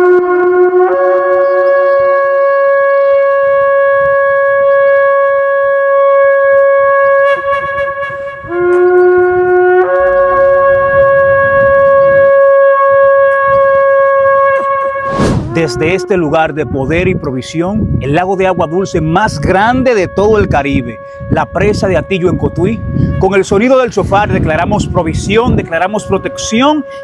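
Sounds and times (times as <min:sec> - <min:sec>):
shofar blasts: 0:00.0 - 0:27.0.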